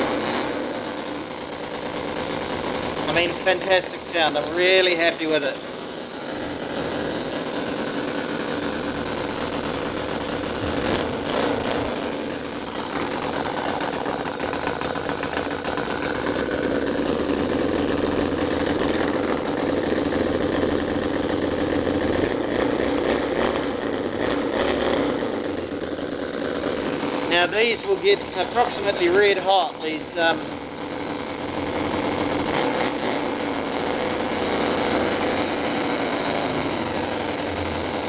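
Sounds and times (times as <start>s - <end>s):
model petrol engine running: 0.0s - 38.0s.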